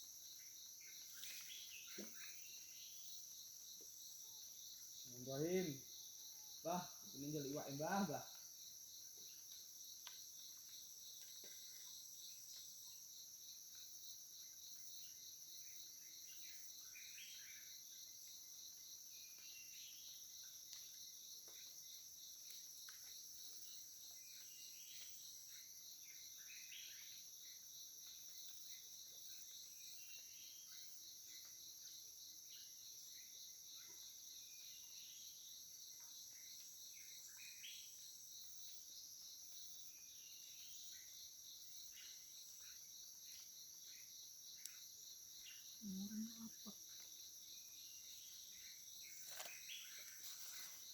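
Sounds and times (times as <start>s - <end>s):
insect fast trill: 0.0s - 50.9s
insects buzzing: 0.0s - 50.9s
short insect chirps: 0.0s - 50.9s.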